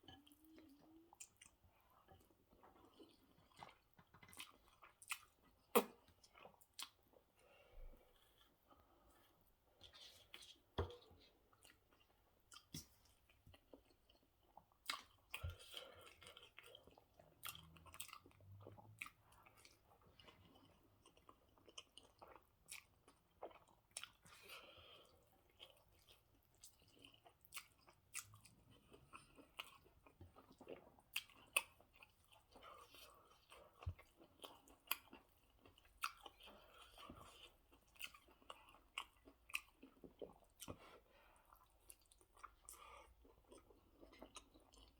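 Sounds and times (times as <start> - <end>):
chewing and mouth smacking: 0.1 - 7.1, 11.5 - 24.4, 25.4 - 44.9.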